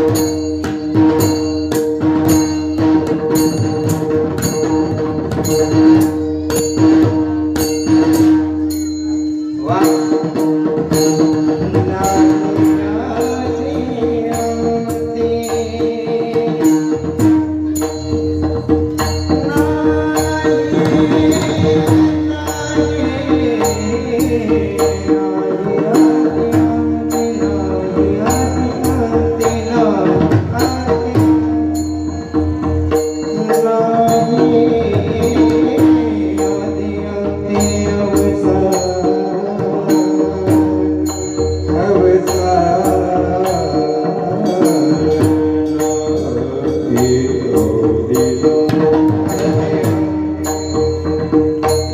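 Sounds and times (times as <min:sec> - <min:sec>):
hand drum playing: 0:00.0 - 0:51.9
man singing devotional melody: 0:00.0 - 0:51.9
small hand cymbals: 0:00.0 - 0:51.9.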